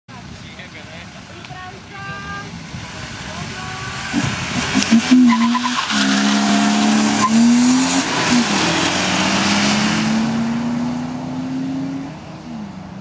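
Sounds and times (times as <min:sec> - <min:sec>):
car engines revving hard: 0:02.2 - 0:13.0.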